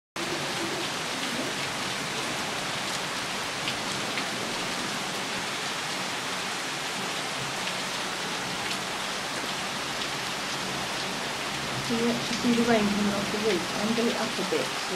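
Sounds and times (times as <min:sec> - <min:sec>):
individual raindrops: 0:00.2 - 0:14.9
steady rain on roof and trees: 0:00.2 - 0:14.9.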